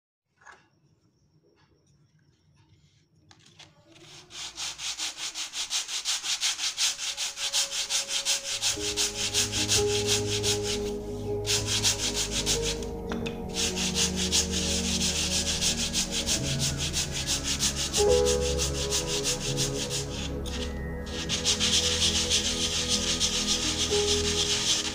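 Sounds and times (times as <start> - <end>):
wood block sanding on sandpaper: 4.0 - 24.9.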